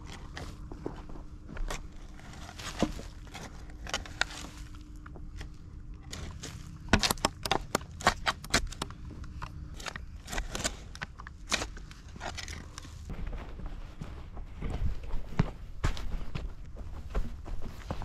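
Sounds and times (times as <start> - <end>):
feet stamping on soil and twigs: 0.0 - 18.0.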